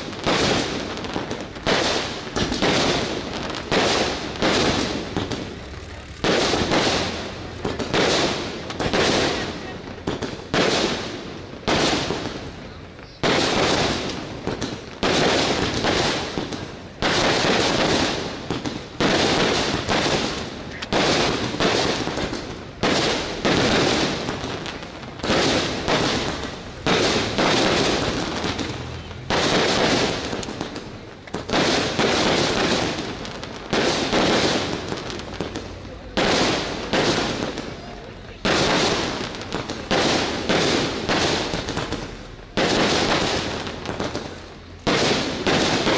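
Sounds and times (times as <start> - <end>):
fireworks banging: 0.0 - 45.9.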